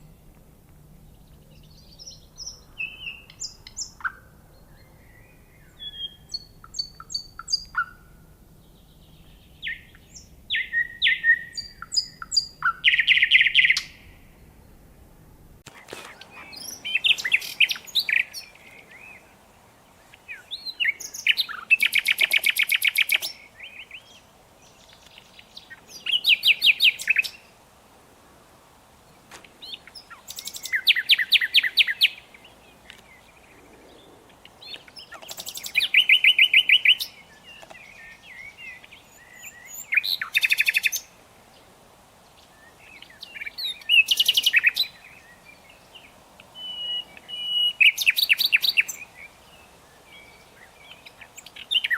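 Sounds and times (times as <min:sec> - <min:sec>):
nightingale singing: 0:00.0 - 0:14.9, 0:15.7 - 0:27.6, 0:29.0 - 0:51.9.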